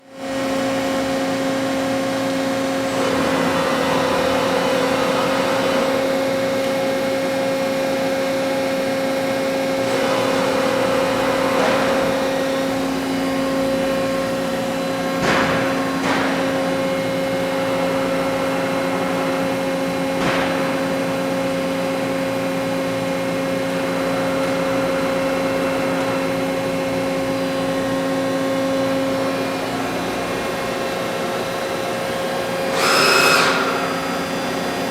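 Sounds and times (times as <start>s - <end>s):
machine running with a hum: 0.0s - 34.9s.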